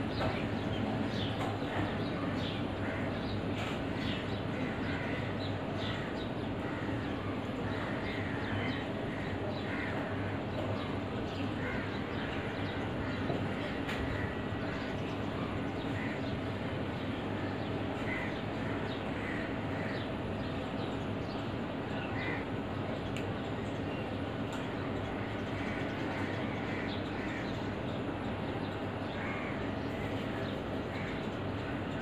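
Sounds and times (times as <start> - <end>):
crows cawing: 1.4 - 20.4, 21.8 - 22.8, 24.9 - 27.8, 29.0 - 32.0.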